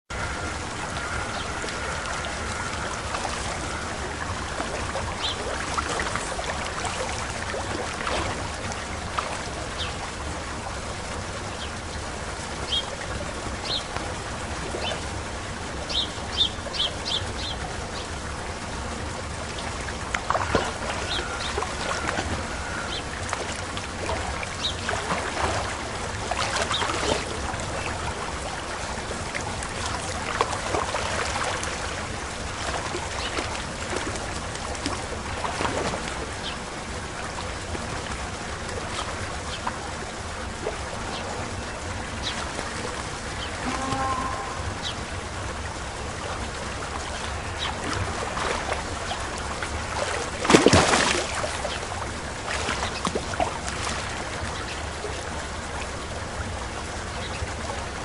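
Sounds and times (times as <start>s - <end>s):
wind: 0.0s - 58.0s
rushing water: 0.1s - 58.0s.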